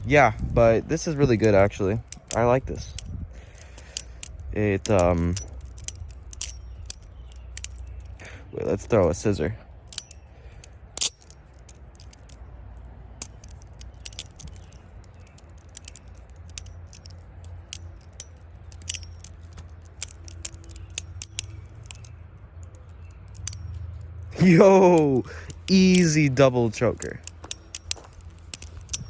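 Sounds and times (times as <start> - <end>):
balisong metallic clicks and clacks: 0.0 - 29.0.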